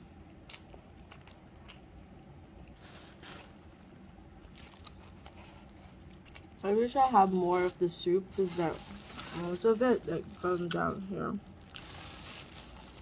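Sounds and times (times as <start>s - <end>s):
faint chewing and mouth sounds: 0.2s - 13.0s.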